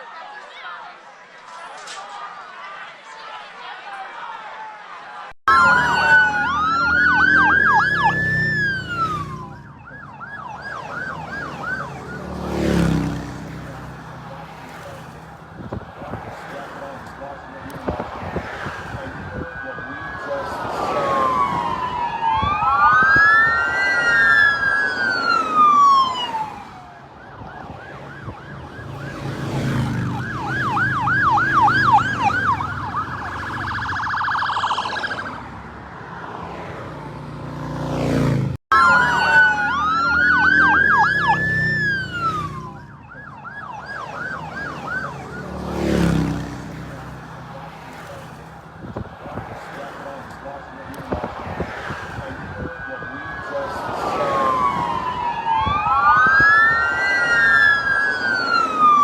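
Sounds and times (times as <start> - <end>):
emergency sirens wailing and yelping: 0.0 - 59.0.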